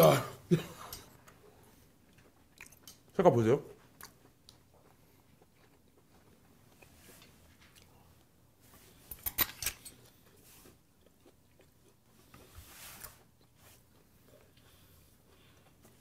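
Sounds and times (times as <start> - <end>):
faint chewing: 0.8 - 9.1, 9.9 - 16.0.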